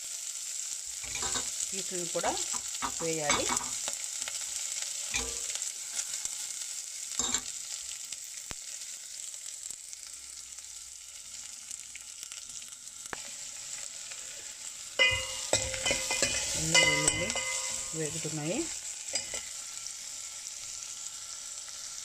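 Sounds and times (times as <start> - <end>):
spices sizzling in hot oil: 0.0 - 22.0.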